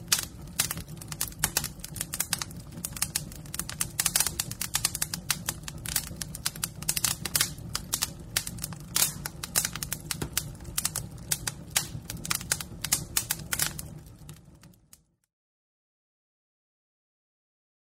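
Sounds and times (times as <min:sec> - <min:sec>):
steady low rumble: 0:00.0 - 0:14.9
fire crackling and popping: 0:00.0 - 0:15.3.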